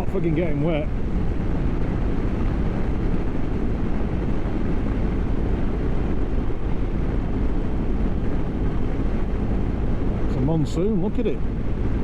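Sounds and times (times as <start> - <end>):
wind and road noise on microphone: 0.0 - 12.0.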